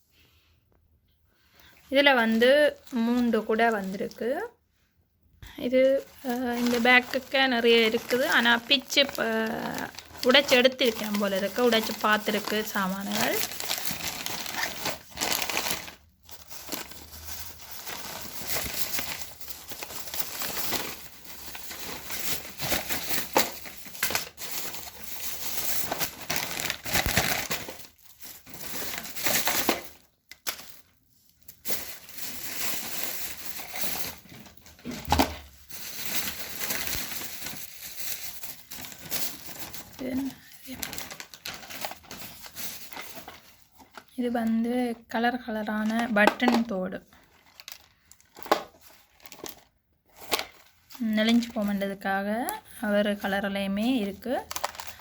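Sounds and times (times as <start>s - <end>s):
packaging crinkling: 5.6s - 44.1s, 45.8s - 51.8s, 54.2s - 55.0s.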